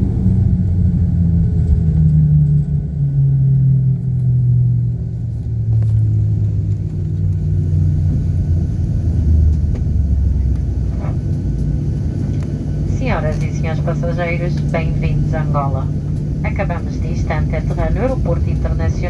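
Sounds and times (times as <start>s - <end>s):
airliner rumbling on runway: 0.0s - 19.0s.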